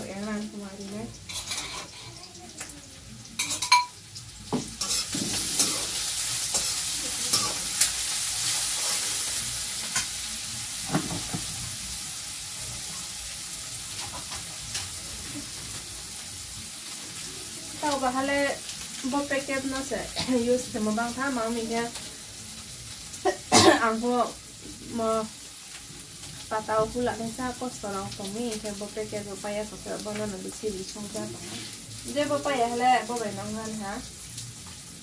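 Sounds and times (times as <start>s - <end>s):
food frying in hot oil: 0.0s - 35.0s.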